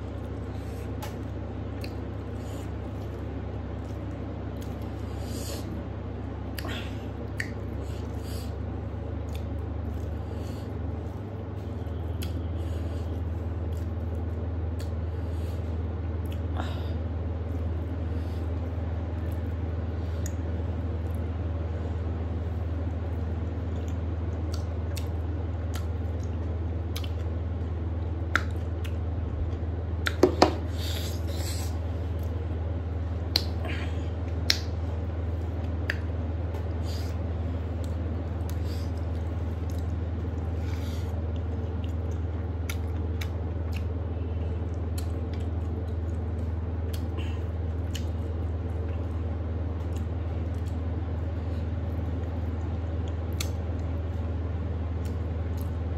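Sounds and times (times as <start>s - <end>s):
chewing and mouth noises: 0.0s - 16.8s, 22.4s - 55.9s
steady low hum: 0.0s - 55.9s.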